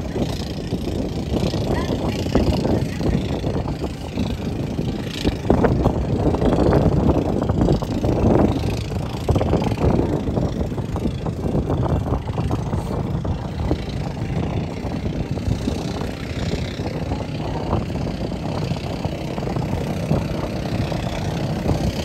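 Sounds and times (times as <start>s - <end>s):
boat engine running: 0.0s - 22.0s
wind noise on microphone: 0.0s - 22.0s.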